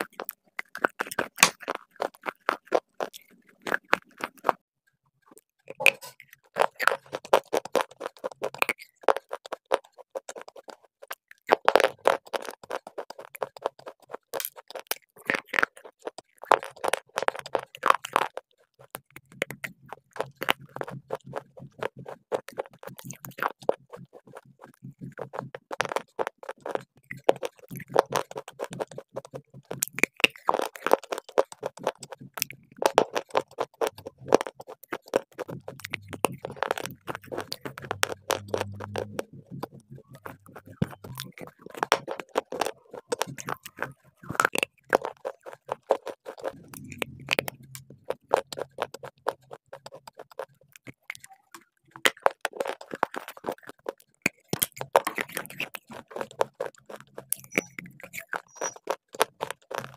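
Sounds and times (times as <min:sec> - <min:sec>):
crunching hard clay bites: 0:00.0 - 0:04.6, 0:05.8 - 0:51.3, 0:52.0 - 0:59.9
soft chewing of biscuit: 0:00.0 - 0:59.9.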